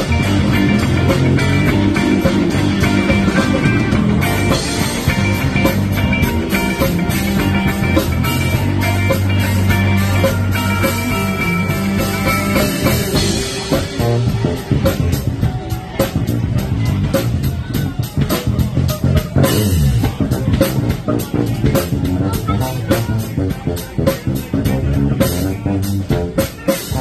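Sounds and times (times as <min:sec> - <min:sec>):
drum kit beat: 0:00.0 - 0:27.0
electric bass guitar solo: 0:00.0 - 0:27.0.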